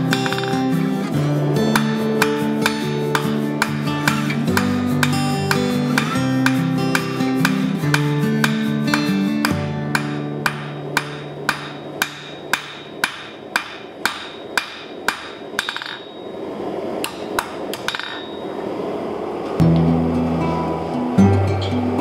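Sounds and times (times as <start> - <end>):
hammer striking steel on anvil: 0.0 - 0.9, 1.7 - 18.7.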